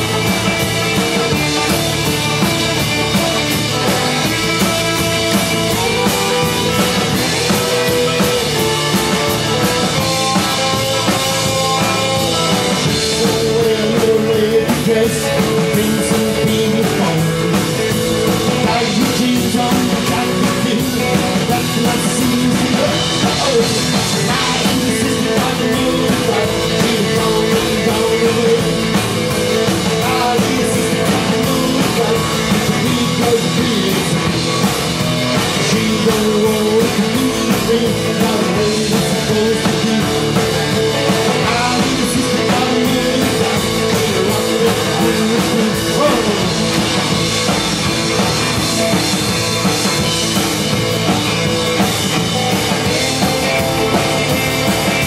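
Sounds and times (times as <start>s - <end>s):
drum kit beat: 0.0s - 55.0s
electric guitar: 0.0s - 55.0s
upright double bass: 0.0s - 55.0s.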